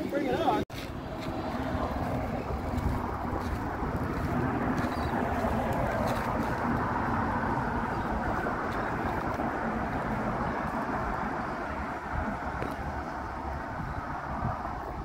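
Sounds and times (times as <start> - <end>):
wind rushing on microphone: 0.5 - 15.0.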